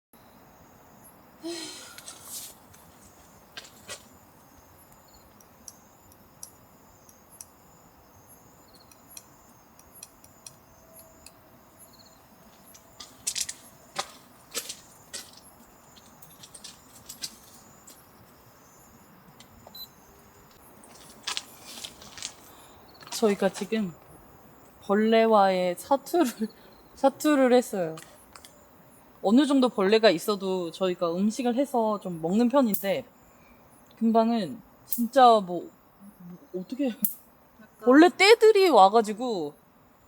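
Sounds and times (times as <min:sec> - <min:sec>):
faint insect chirping: 0:00.2 - 0:40.0.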